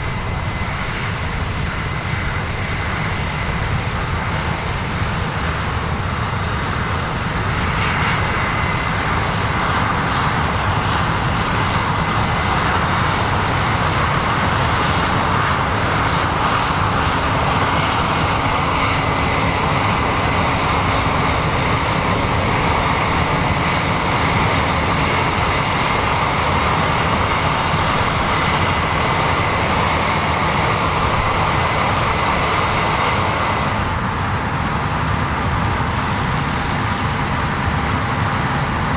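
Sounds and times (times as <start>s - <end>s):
heavy farm machinery running: 0.0s - 38.9s.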